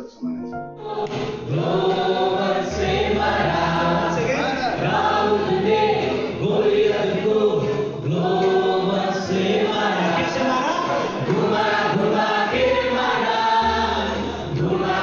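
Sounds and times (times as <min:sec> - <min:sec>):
congregation singing: 0:00.0 - 0:15.0.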